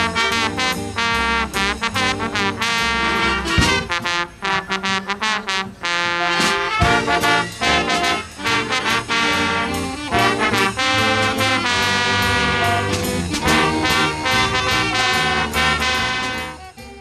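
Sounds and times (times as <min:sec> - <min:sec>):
drum kit: 0:00.0 - 0:04.4, 0:06.2 - 0:17.0
guitar: 0:00.0 - 0:04.4, 0:06.8 - 0:17.0
bass: 0:00.0 - 0:17.0
saxophones and horns: 0:00.0 - 0:17.0.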